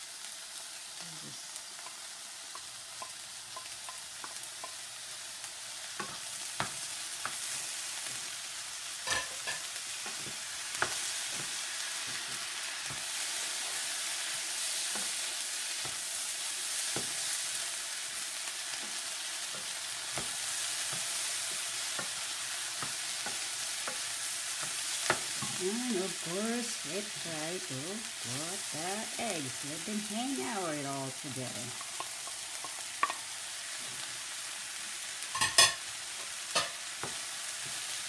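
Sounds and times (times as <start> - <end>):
food sizzling in a frying pan: 0.0 - 38.0.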